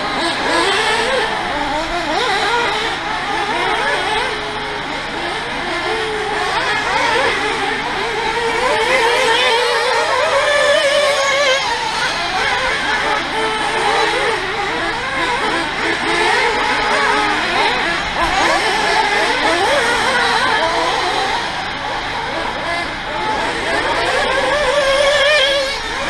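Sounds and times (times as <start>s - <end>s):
rc car motors whining: 0.0s - 26.0s.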